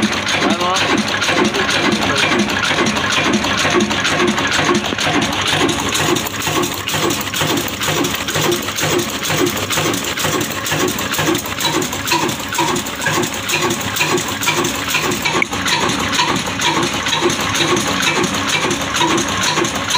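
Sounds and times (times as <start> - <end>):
oil engine running slowly: 0.0 - 19.9.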